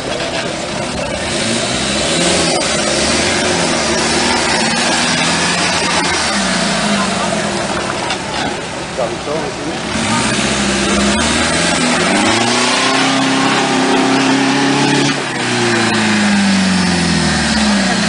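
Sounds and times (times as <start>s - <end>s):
off-road engine revving hard: 0.0s - 8.6s, 9.6s - 18.0s.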